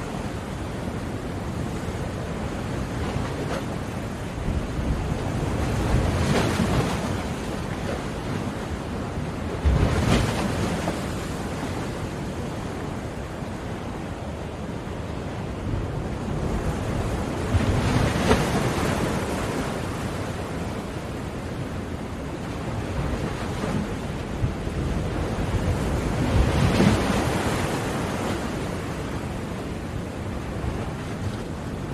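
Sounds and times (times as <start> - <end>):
sea waves breaking on shore: 0.0 - 31.9.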